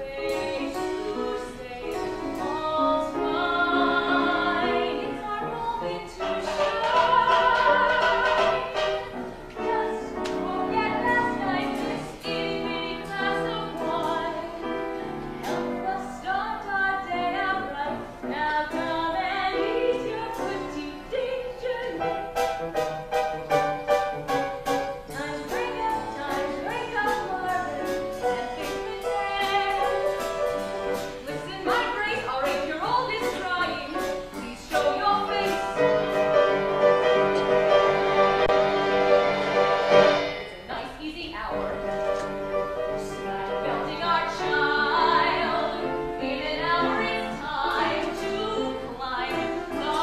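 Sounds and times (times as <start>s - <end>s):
woman singing: 0.0s - 22.3s, 25.0s - 36.7s, 40.3s - 50.0s
instrumental accompaniment: 0.0s - 50.0s.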